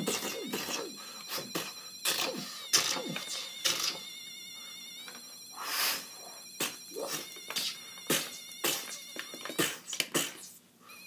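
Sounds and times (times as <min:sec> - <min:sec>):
warbling electronic tone: 0:00.0 - 0:11.0.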